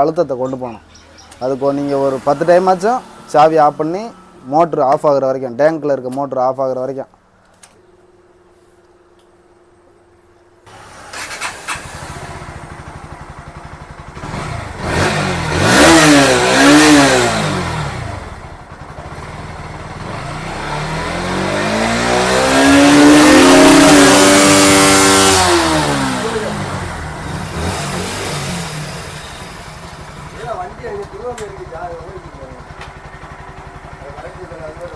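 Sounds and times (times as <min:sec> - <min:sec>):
motorcycle engine revving: 0:00.0 - 0:05.0, 0:10.7 - 0:34.9.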